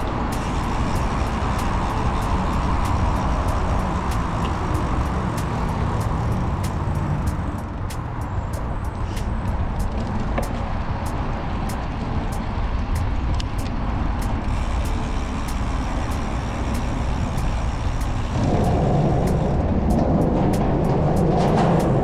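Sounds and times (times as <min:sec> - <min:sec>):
faint regular ticking: 0:00.0 - 0:09.9, 0:11.7 - 0:22.0
wind and bike riding noise: 0:00.0 - 0:22.0.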